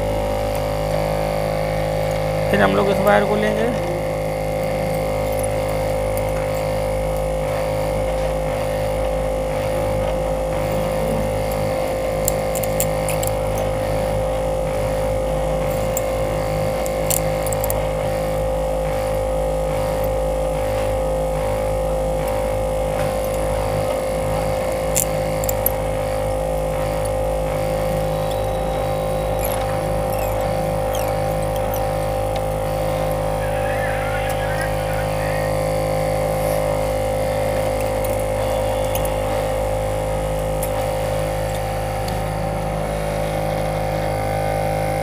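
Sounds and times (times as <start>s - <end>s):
machine droning: 0.0s - 45.0s.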